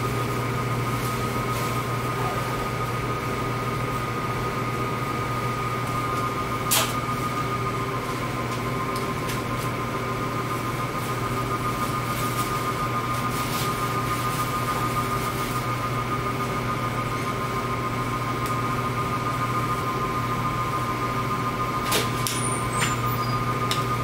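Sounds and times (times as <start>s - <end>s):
ventilation whir and hiss: 0.0s - 24.0s.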